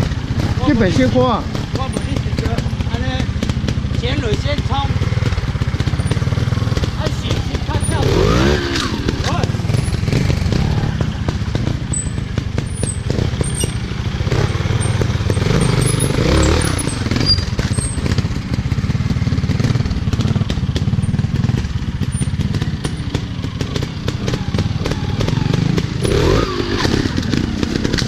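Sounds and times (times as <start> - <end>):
dirt bike engines running: 0.0 - 28.0.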